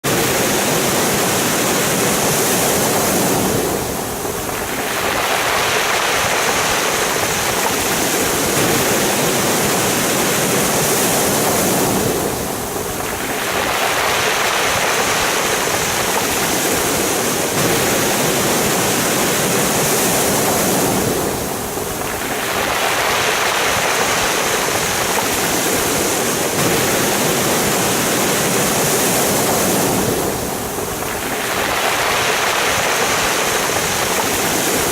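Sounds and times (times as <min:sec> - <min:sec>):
waves washing over pebbles: 0:00.0 - 0:34.9.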